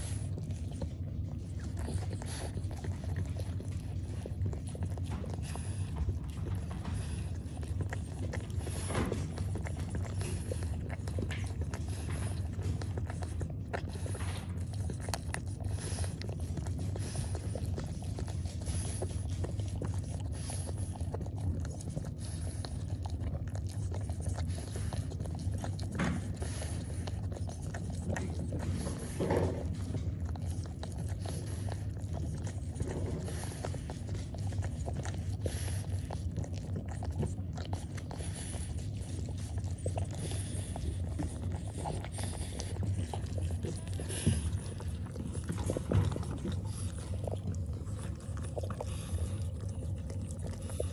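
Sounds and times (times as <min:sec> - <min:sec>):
puppies suckling: 0:00.0 - 0:50.9.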